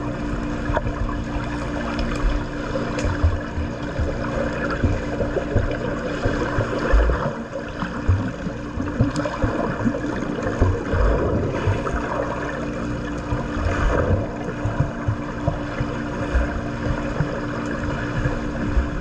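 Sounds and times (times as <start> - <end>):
steady low hum: 0.0 - 19.0
splashing pool water: 0.6 - 19.0.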